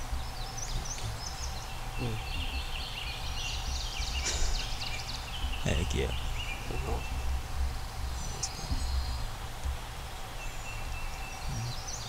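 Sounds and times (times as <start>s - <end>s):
bird chirps: 0.0s - 7.4s, 8.0s - 9.3s, 10.4s - 12.0s.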